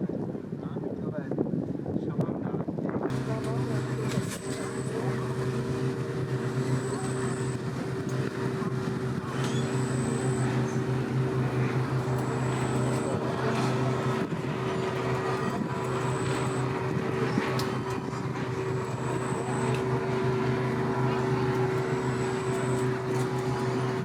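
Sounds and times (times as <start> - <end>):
engine hum: 3.1 - 24.0.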